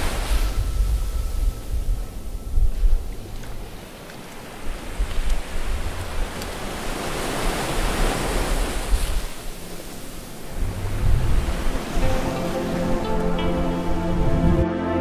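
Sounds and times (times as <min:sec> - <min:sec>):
wind rumble on microphone: 0:00.0 - 0:14.7
ocean surf washing in: 0:00.0 - 0:15.0.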